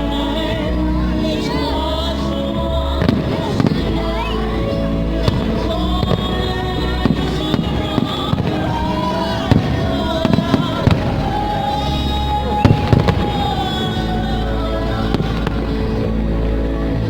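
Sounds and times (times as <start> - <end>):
loud music soundtrack: 0.0 - 17.0.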